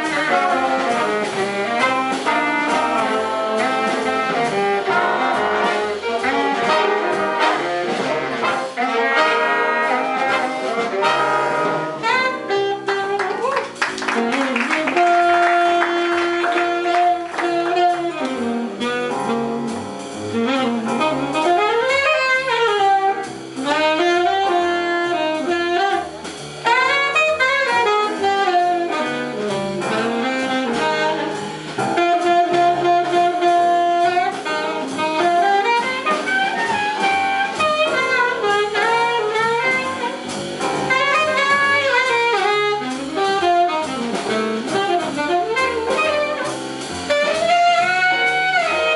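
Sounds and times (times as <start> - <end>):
soloist playing melodic line: 0.0 - 13.6, 14.2 - 48.9
big band jazz: 0.0 - 48.9.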